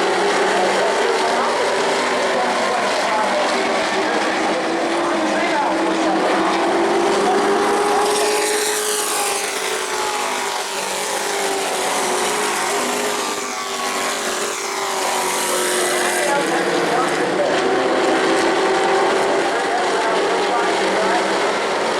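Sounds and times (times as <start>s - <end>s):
racing truck engines: 0.0s - 21.9s.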